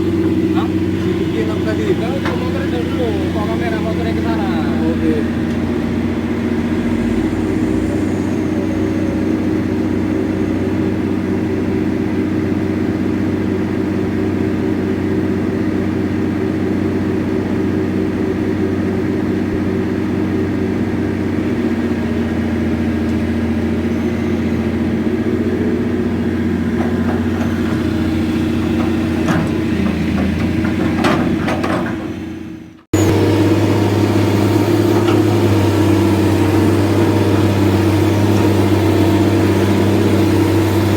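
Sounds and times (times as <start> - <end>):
engine running steadily: 0.0 - 40.9
louder deeper engine hum: 0.0 - 40.9.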